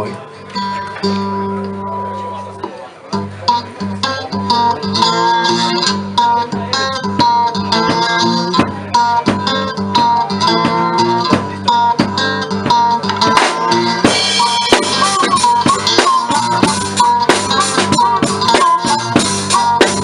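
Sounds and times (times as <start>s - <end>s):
plucked guitar notes: 0.0s - 20.0s
bass line: 3.2s - 20.0s.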